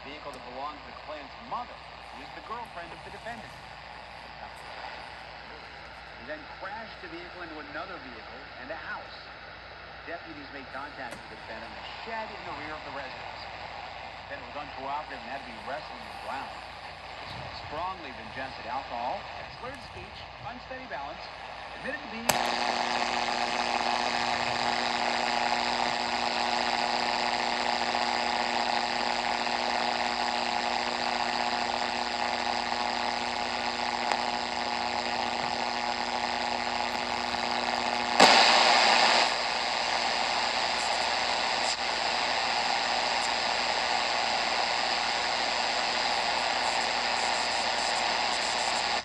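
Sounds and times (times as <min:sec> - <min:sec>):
radio static hissing: 0:00.0 - 0:49.0.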